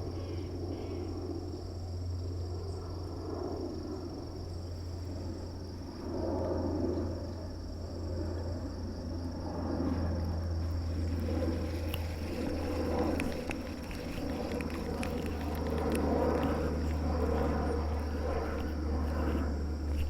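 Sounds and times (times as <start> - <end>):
high insect drone: 0.0 - 20.0
low hum: 0.0 - 20.0.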